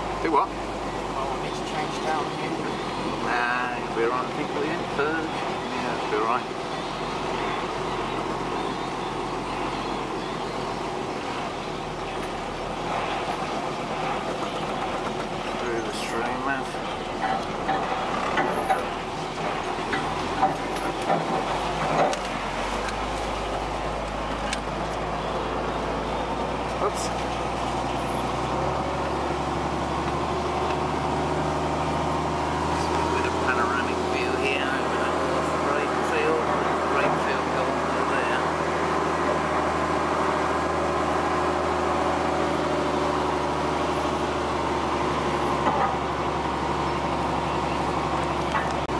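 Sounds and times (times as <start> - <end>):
road noise on rough track: 0.0 - 48.9
tractor engine running: 0.0 - 48.9.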